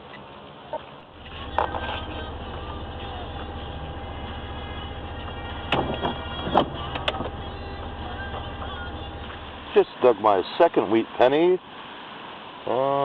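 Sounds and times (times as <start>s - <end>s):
low mechanical hum: 0.0s - 12.6s.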